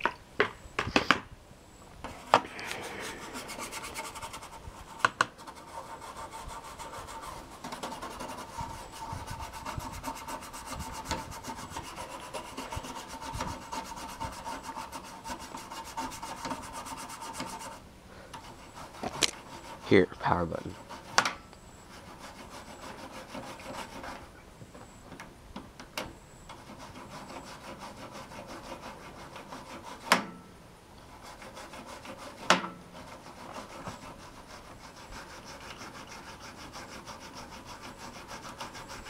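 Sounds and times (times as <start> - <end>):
rubbing strokes scrubbing: 2.1 - 17.8, 18.4 - 21.2, 21.9 - 24.3, 26.6 - 30.2, 31.1 - 39.0.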